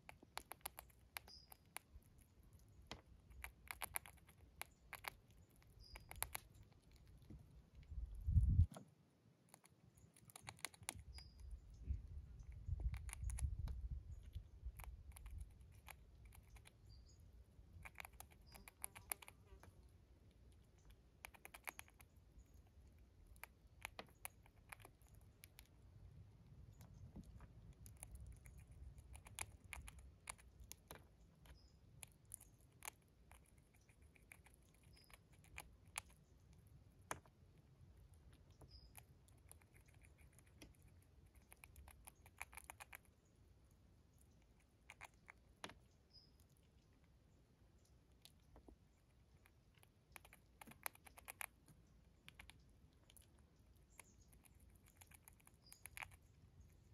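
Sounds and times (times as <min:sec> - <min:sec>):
squirrel cracking corn kernels: 0:00.0 - 0:56.9.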